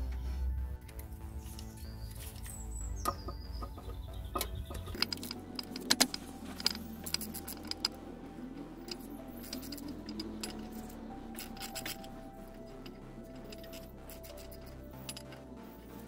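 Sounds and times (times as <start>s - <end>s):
metal tools clinking: 0.8s - 8.1s, 8.7s - 16.0s.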